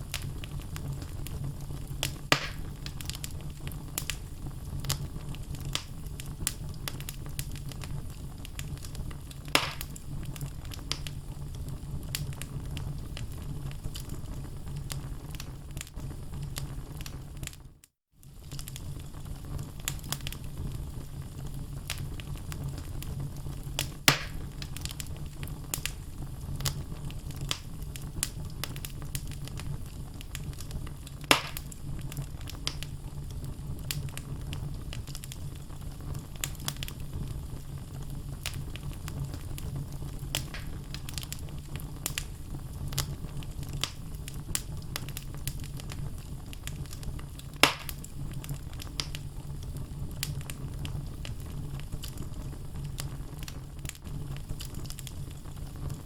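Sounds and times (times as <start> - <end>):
sharp fire pops: 0.0 - 17.6, 18.2 - 56.0
wood crackling: 0.0 - 17.6, 18.2 - 56.0
fire low rumble: 0.0 - 56.0.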